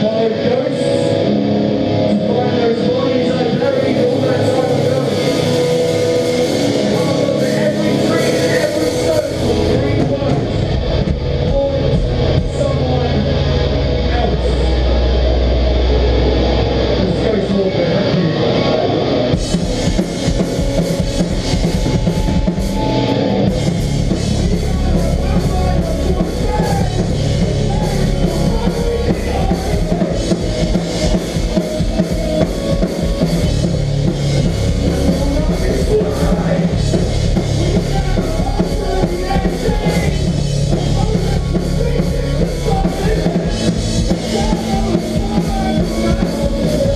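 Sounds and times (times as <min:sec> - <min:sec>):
guitar and bass chords: 0:00.0 - 0:46.9
drum kit heavy beat: 0:03.3 - 0:15.9, 0:18.0 - 0:46.9.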